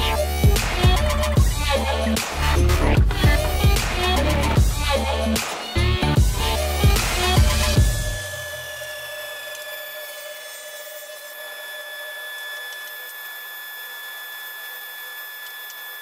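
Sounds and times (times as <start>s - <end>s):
table saw whining: 0.0s - 16.0s.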